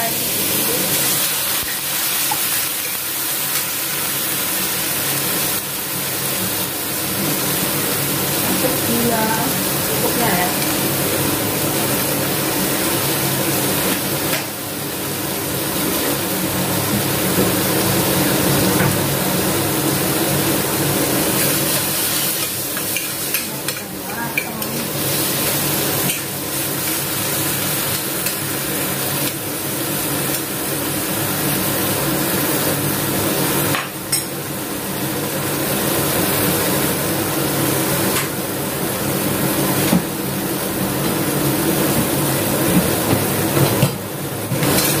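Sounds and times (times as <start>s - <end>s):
stir-fry sizzling in a pan: 0.0s - 45.0s.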